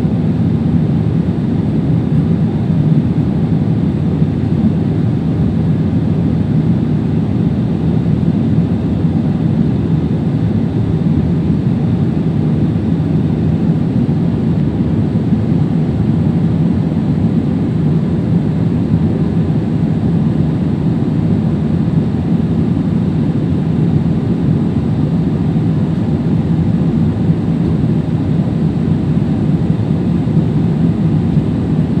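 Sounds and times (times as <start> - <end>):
jet engines and rushing air: 0.0 - 32.0.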